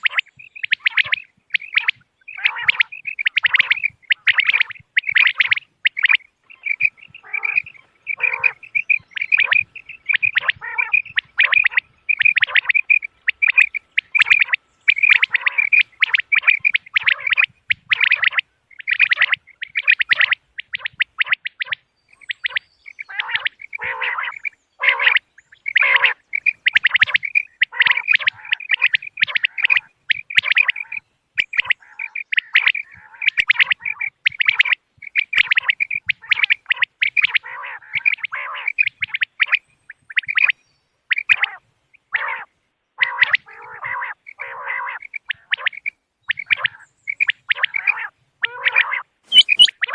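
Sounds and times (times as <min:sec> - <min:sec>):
quail calling: 0:00.0 - 0:49.9.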